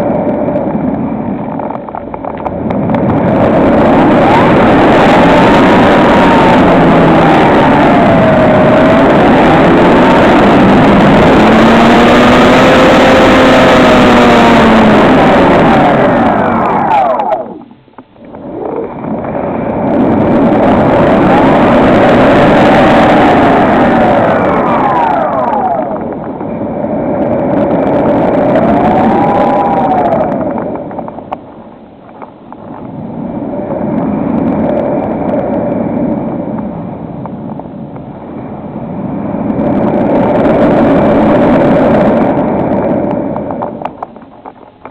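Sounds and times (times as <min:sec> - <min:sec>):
electric motor and propeller: 0:00.0 - 0:44.9.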